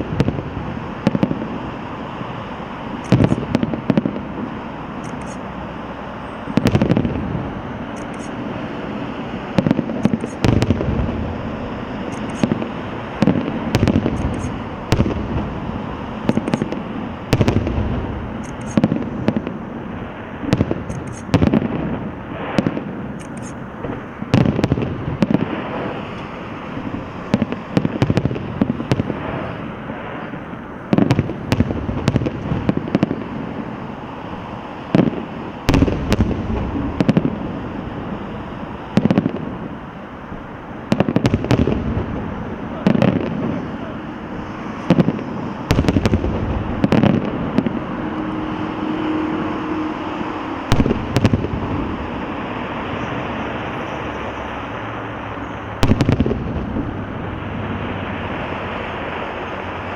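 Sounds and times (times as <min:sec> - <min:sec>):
fireworks crackling and rumbling: 0:00.0 - 0:59.9
fireworks exploding: 0:00.0 - 0:59.9.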